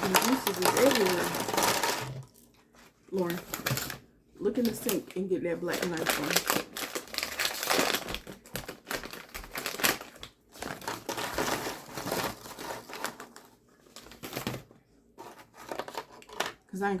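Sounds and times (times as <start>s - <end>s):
food packaging crinkling: 0.0s - 16.7s.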